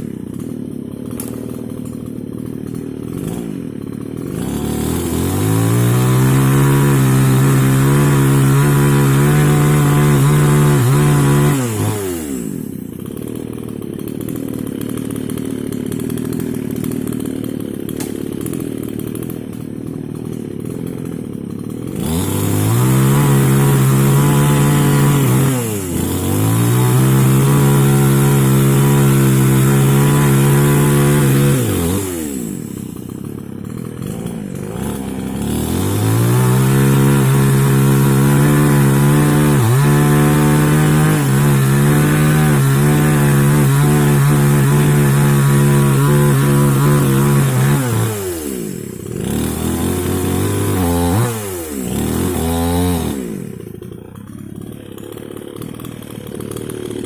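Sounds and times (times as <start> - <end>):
chainsaw idling: 0.0 - 57.0
chainsaw revving at full throttle: 0.0 - 57.0.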